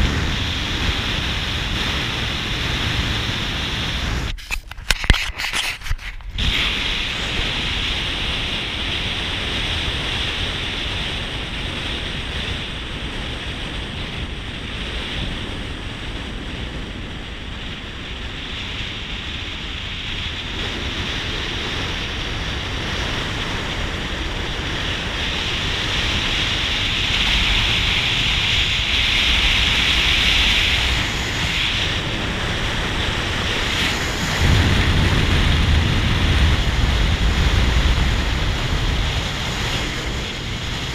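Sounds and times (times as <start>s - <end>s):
tyre noise on paved road: 0.0s - 40.9s
wind noise: 0.0s - 40.9s.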